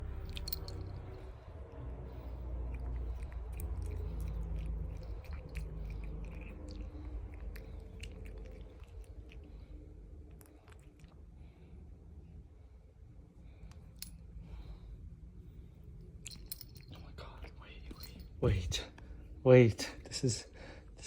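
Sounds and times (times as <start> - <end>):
low rumble: 0.0 - 19.4.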